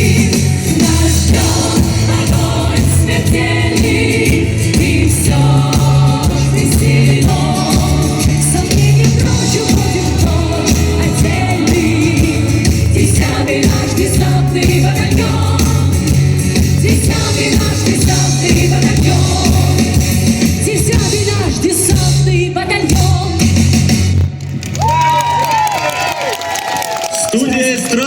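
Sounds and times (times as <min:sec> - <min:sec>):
women's vocal ensemble singing: 0:00.0 - 0:23.6
instrumental accompaniment with bass: 0:00.0 - 0:26.0.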